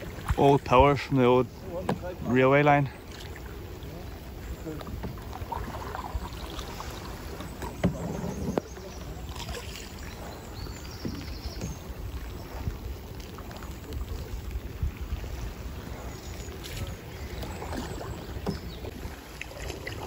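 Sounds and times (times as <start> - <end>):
paddle strokes splashing: 0.0 - 20.0.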